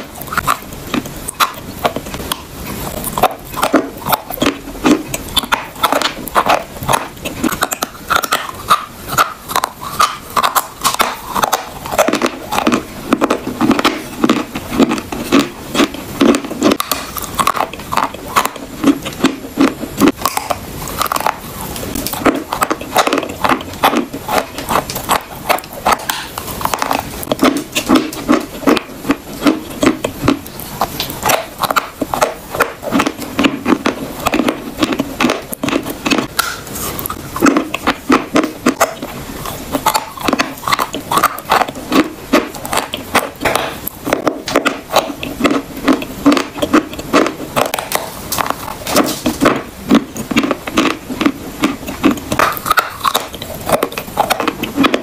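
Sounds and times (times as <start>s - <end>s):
crunching and chewing chalk: 0.0s - 55.0s.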